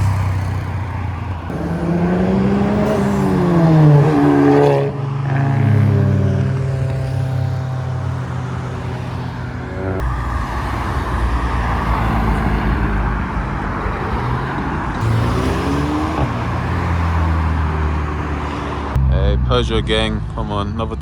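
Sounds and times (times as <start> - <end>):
deep exhaust rumble: 0.0 - 4.4, 5.3 - 21.0
cars driving slowly past: 0.0 - 21.0
engine revving: 0.0 - 21.0.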